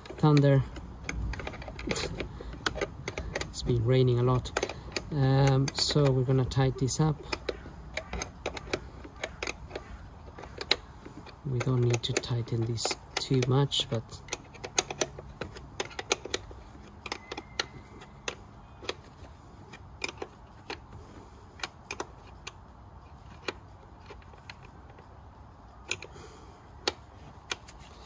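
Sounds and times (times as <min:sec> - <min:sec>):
spanner clicking on nut: 0:00.0 - 0:28.0.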